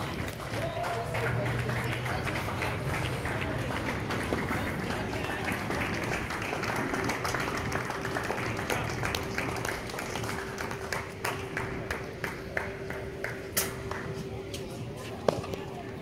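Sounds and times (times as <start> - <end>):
small group applauding: 0.0 - 14.2.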